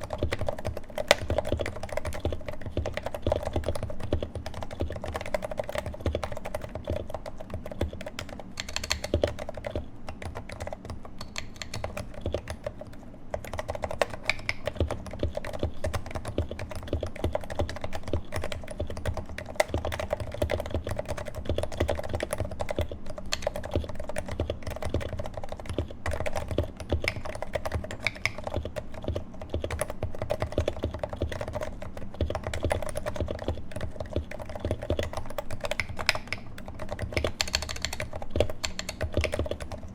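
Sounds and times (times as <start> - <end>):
fast typing on a keyboard: 0.0 - 39.9.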